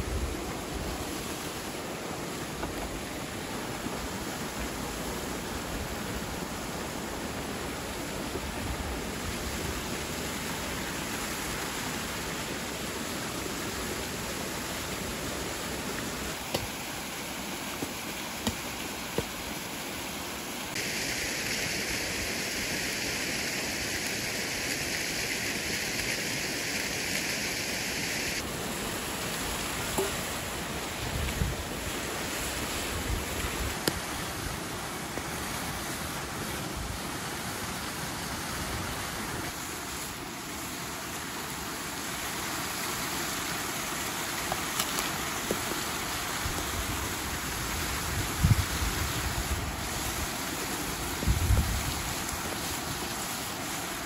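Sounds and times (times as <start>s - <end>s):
waterfall and creek rushing: 0.0s - 54.0s.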